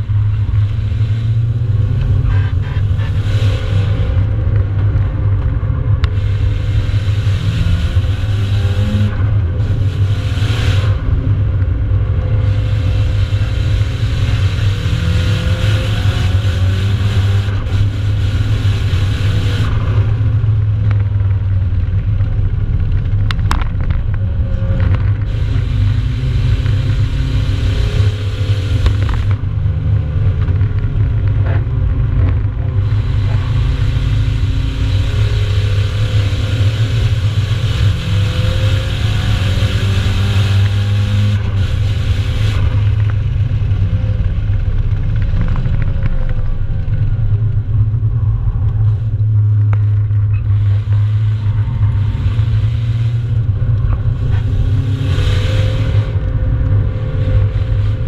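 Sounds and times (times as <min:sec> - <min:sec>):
low road rumble: 0:00.0 - 0:58.0
turbocharged car engine: 0:00.0 - 0:58.0.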